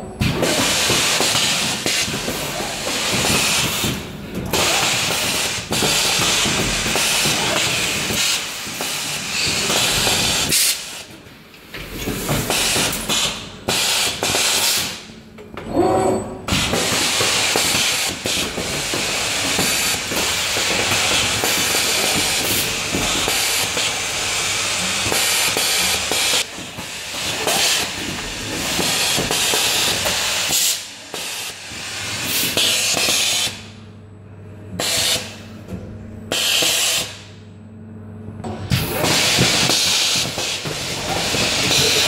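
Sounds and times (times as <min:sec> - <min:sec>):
low machine hum: 0:00.0 - 0:30.1, 0:30.8 - 0:42.0
loud hiss of air: 0:00.4 - 0:03.9, 0:04.6 - 0:11.1, 0:12.1 - 0:15.1, 0:16.5 - 0:33.7, 0:34.8 - 0:35.4, 0:36.3 - 0:37.4, 0:38.9 - 0:42.0.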